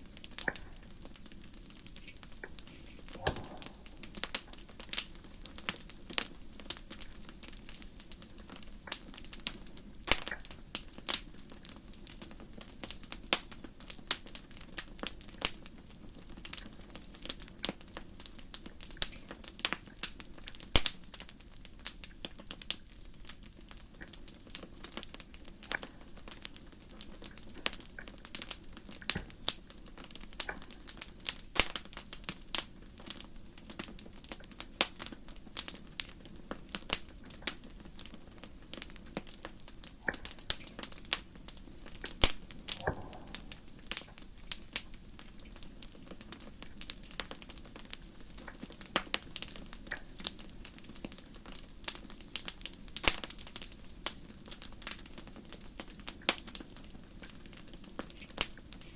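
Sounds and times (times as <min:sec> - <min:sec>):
low hiss of burning: 0:00.0 - 0:58.9
wood fire crackling: 0:00.0 - 0:58.9.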